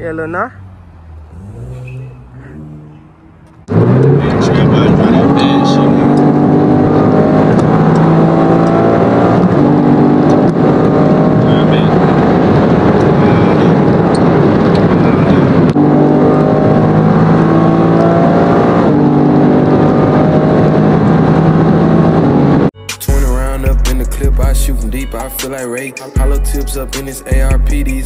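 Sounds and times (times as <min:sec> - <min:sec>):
car engine at high revs: 0:00.0 - 0:22.8.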